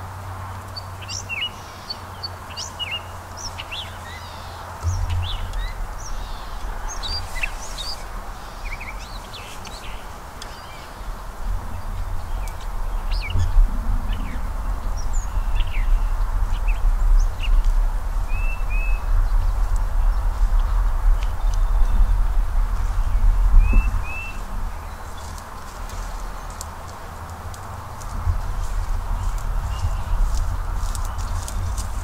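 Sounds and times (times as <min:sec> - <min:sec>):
songbirds chirping and whistling: 0:00.7 - 0:27.4, 0:28.0 - 0:32.0
steady low rumble: 0:04.8 - 0:32.0.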